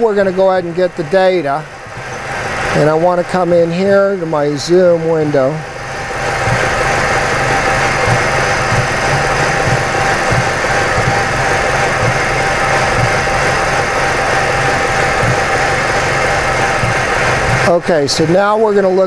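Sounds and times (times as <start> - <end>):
misfiring car engine idling: 0.0 - 19.0.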